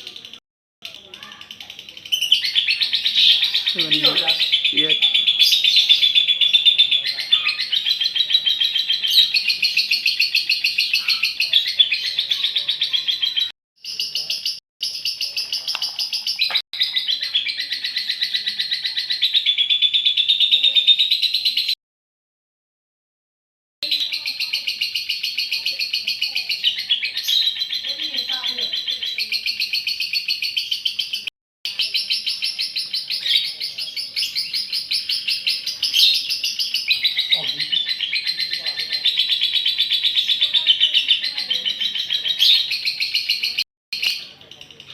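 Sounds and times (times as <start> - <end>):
lovebird chattering call: 1.2 - 21.8, 23.8 - 44.9.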